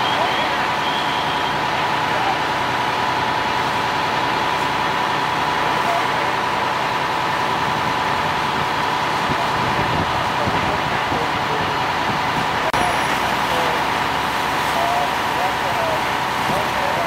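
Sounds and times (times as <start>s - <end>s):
heavy engine drone: 0.0s - 17.0s.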